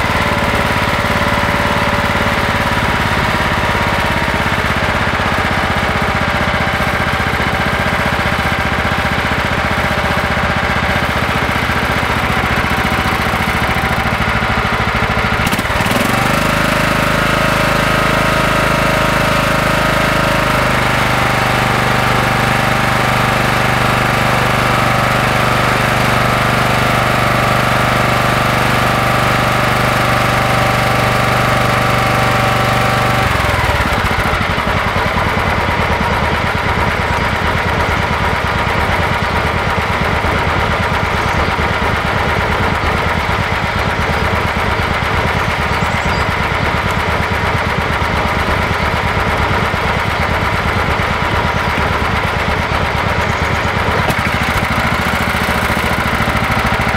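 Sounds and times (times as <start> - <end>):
lawn tractor engine running: 0.0 - 56.9.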